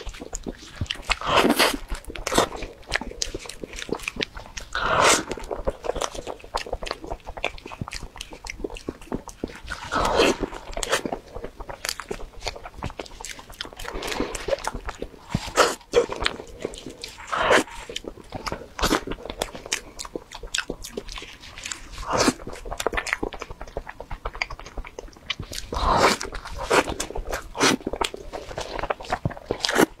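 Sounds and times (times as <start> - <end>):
close-miked bites and chewing: 0.0 - 30.0
wet mouth clicks and lip smacks: 0.0 - 30.0.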